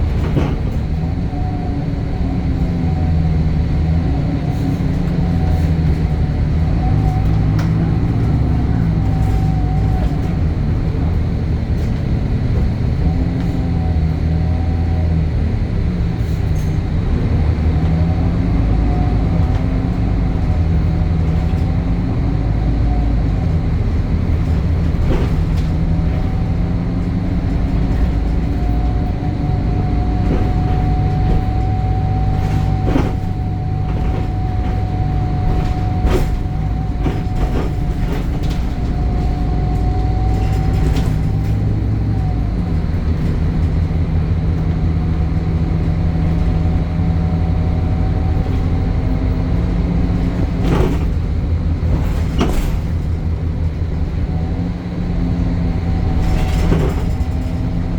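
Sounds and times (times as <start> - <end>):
bus body knocks and rattles: 0.0 - 57.9
bus diesel engine drone: 0.0 - 57.9.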